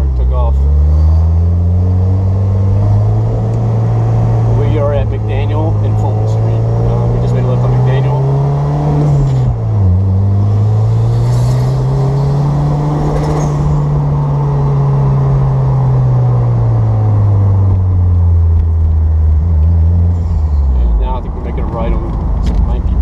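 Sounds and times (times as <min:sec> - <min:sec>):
car engine from inside cabin: 0:00.0 - 0:23.0
road rumble: 0:00.0 - 0:23.0.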